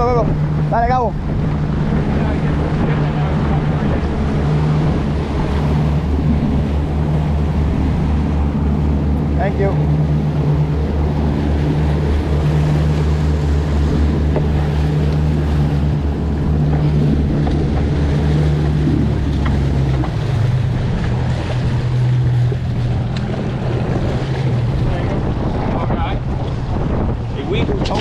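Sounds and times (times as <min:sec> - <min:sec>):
outboard motors running: 0:00.0 - 0:28.0
water rushing in wake: 0:00.0 - 0:28.0
wind on microphone: 0:00.0 - 0:28.0.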